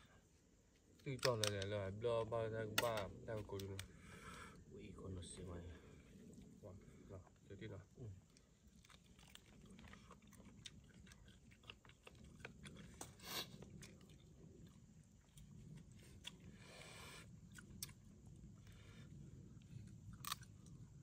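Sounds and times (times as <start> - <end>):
faint crackles and rustles: 0.0 - 21.0.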